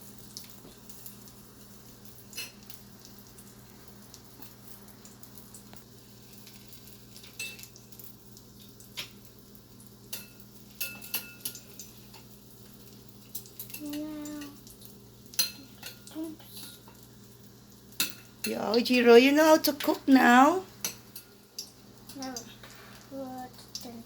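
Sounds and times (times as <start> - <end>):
food frying in a pan: 0.0 - 24.0.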